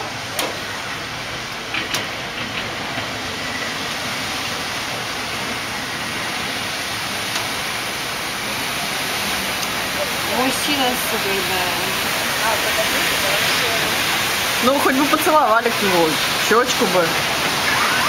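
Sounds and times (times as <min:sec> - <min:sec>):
water rushing on street: 0:00.0 - 0:18.0.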